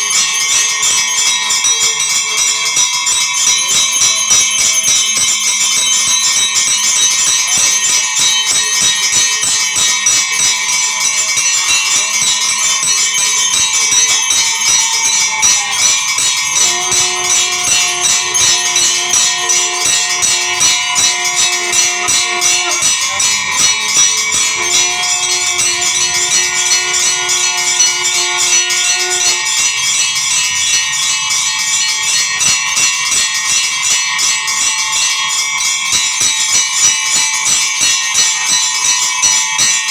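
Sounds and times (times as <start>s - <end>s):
temple bells clanging: 0.0s - 39.9s
steady sustained tone: 3.2s - 39.6s.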